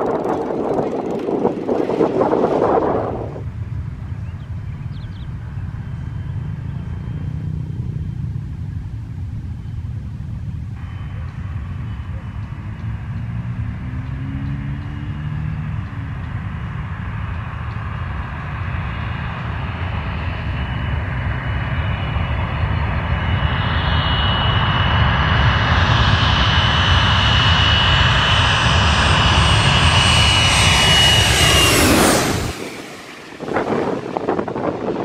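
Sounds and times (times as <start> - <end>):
airliner engine whine: 0.0 - 35.0.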